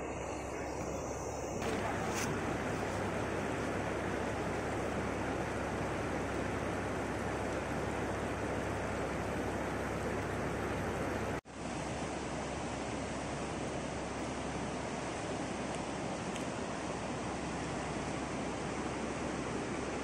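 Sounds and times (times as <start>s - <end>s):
river flowing over stones: 0.1s - 20.0s.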